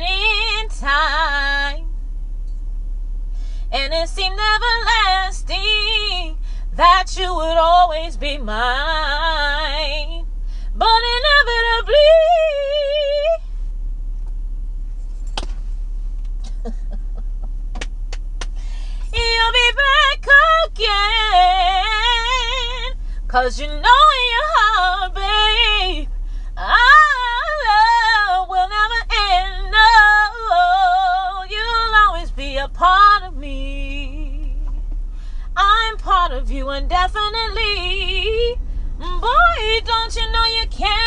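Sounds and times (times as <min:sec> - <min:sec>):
woman singing a cappella: 0:00.0 - 0:01.9, 0:03.7 - 0:13.5, 0:19.1 - 0:34.8, 0:35.5 - 0:41.0
car cabin rumble: 0:00.0 - 0:41.0
steady low hum: 0:00.0 - 0:41.0.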